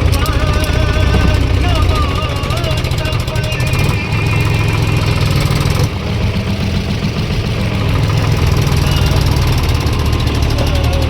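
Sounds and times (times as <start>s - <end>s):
tractor engine humming: 0.0s - 11.0s.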